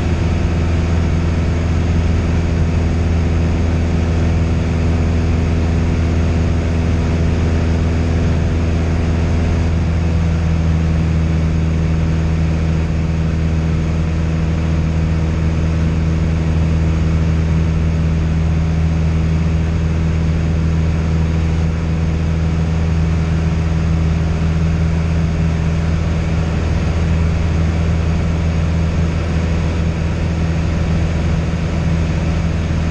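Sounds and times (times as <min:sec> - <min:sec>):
propeller aircraft engine droning: 0:00.0 - 0:32.9.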